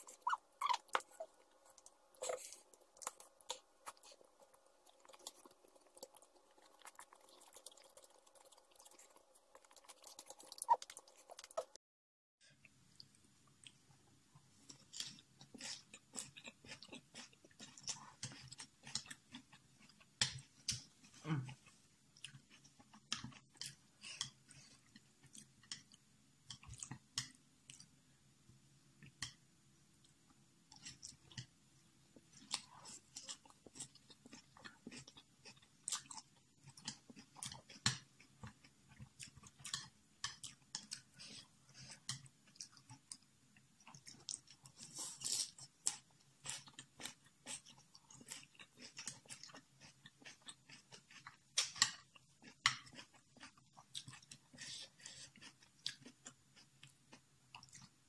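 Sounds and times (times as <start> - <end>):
person chewing noodles: 0.0 - 11.8, 14.5 - 27.9, 30.7 - 31.5, 32.1 - 58.0.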